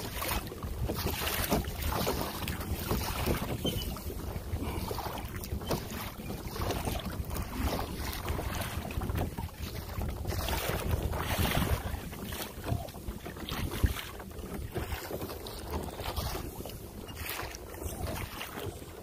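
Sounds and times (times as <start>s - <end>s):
water splashing against kayak: 0.0s - 19.0s
wind buffeting microphone: 0.0s - 19.0s.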